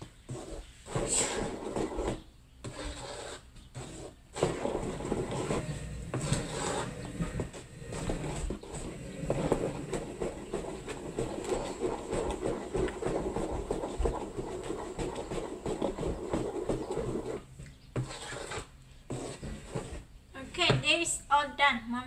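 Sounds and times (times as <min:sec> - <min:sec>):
wooden spoon stirring batter: 0:00.0 - 0:21.1.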